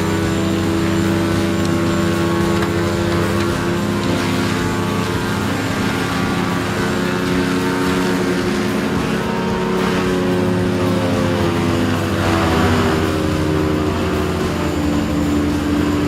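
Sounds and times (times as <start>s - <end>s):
large engine running under load: 0.0s - 16.0s.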